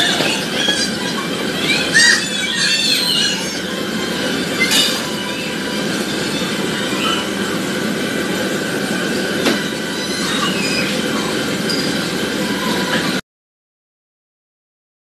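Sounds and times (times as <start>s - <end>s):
children shrieking: 0.0s - 13.2s
indoor play area din: 0.0s - 13.2s.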